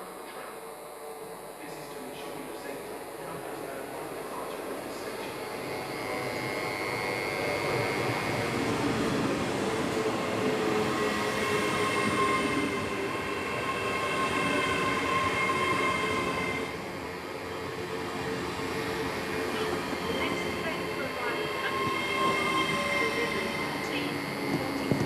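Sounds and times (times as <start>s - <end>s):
high steady tones: 0.0s - 25.0s
train running noise: 0.0s - 25.0s.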